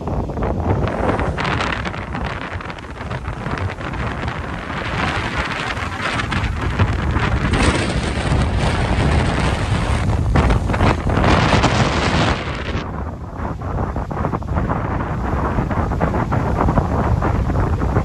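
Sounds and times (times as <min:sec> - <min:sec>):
gusting wind buffeting microphone: 0:00.0 - 0:18.0.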